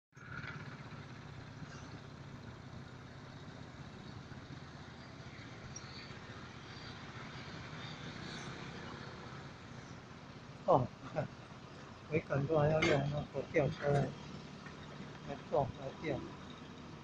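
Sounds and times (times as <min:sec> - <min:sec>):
open-air background noise: 0:00.1 - 0:17.0
distant diesel engines humming: 0:00.2 - 0:17.0.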